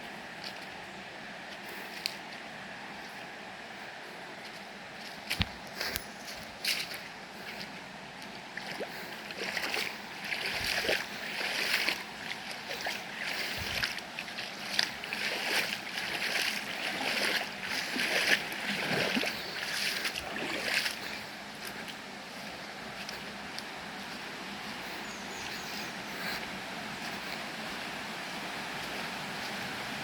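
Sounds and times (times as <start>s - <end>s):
footsteps crunching on trail: 0.0s - 29.8s.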